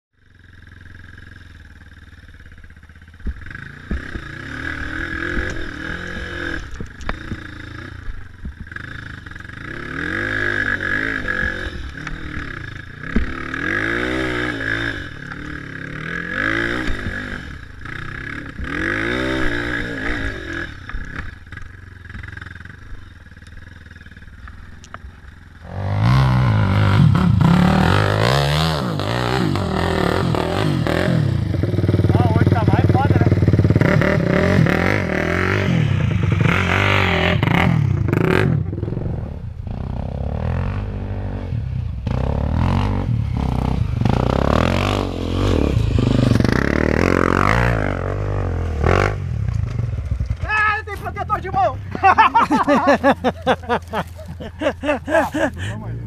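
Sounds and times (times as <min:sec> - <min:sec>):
dirt bike engine revving: 0:00.2 - 0:56.0
motorcycle engine revving: 0:00.2 - 0:56.0.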